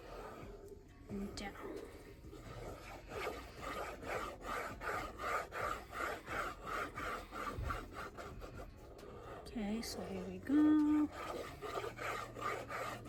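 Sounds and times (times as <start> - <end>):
paper being rubbed: 1.6 - 13.0.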